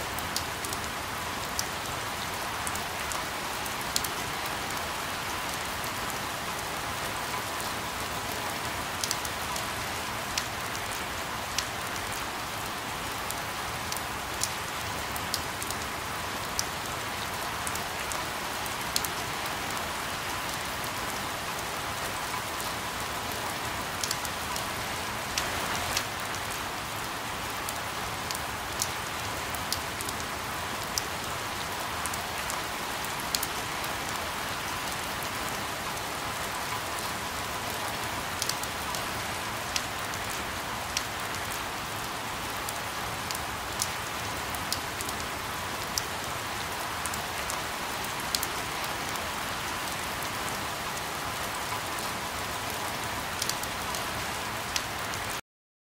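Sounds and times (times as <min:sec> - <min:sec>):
rain falling: 0:00.0 - 0:55.4.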